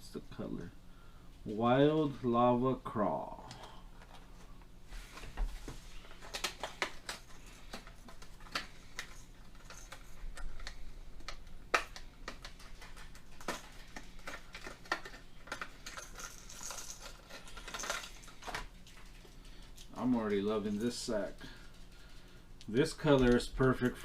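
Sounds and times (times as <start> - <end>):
plastic packaging rustling: 3.6 - 24.0.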